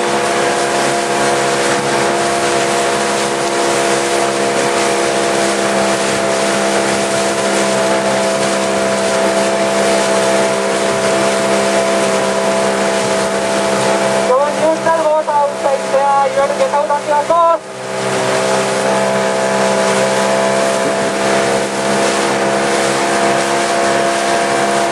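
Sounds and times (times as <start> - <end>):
motorboat engine humming: 0.0 - 24.9
water rushing: 0.0 - 24.9.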